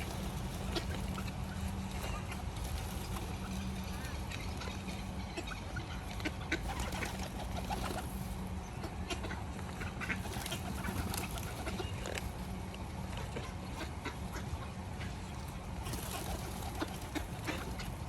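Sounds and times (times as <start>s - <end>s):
low background hum: 0.0s - 18.0s
waterfowl and pigeons calling: 0.0s - 18.0s.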